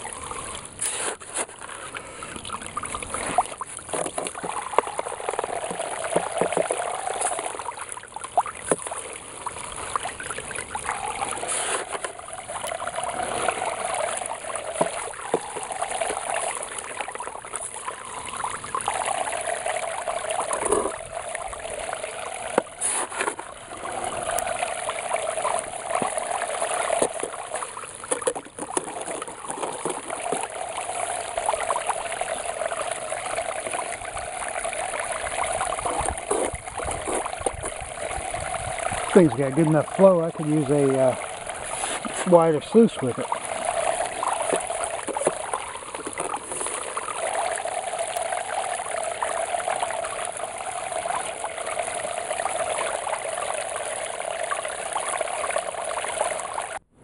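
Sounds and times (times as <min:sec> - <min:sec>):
water pouring down sluice box: 0:00.0 - 0:56.9
scoop knocking and scraping bucket: 0:00.3 - 0:52.9.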